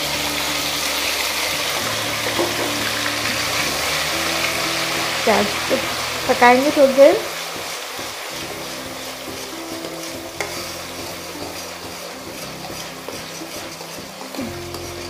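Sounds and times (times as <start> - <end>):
onion paste sizzling in oil: 0.0 - 15.0
metal spoon stirring: 0.3 - 15.0.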